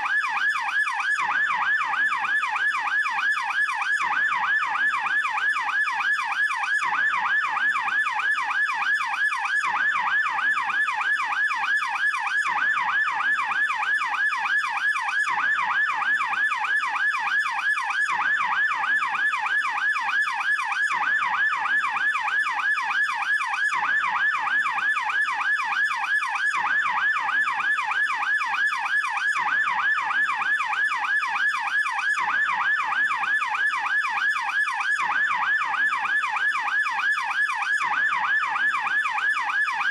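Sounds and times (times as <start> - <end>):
police yelp siren: 0.0 - 39.9.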